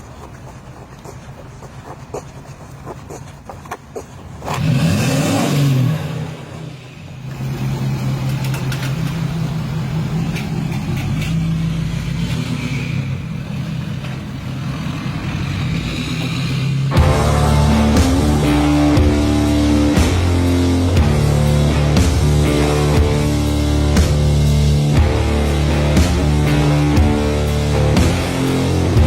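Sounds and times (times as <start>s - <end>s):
car engine starting and idling: 4.4s - 29.0s.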